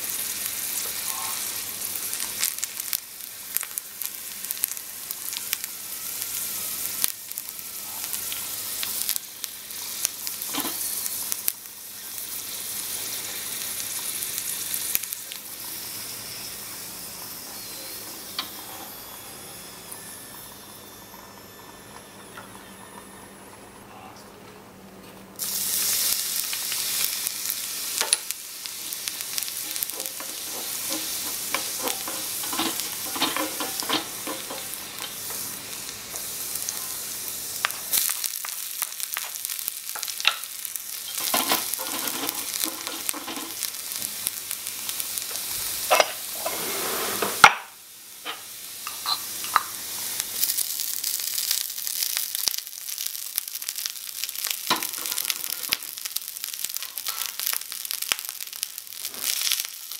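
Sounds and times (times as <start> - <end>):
garlic sizzling in hot oil: 0.0 - 23.4, 25.4 - 59.9.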